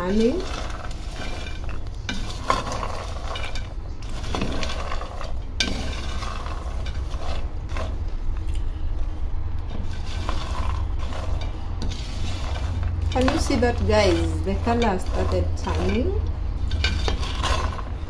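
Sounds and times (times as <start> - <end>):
peanuts rattling in a pot: 0.0 - 8.0, 9.6 - 18.0
low steady hum: 0.0 - 18.0.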